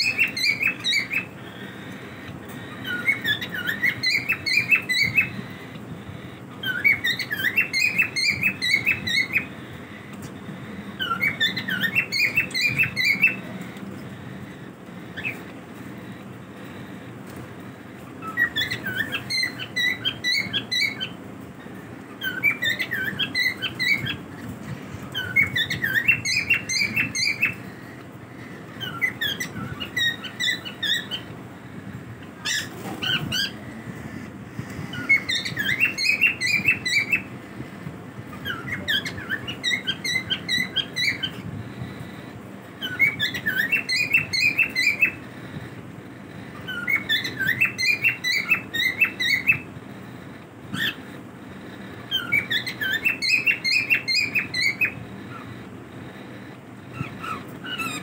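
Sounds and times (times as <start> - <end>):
cockatiels chirping: 0.0 - 58.0
low background noise: 0.0 - 58.0.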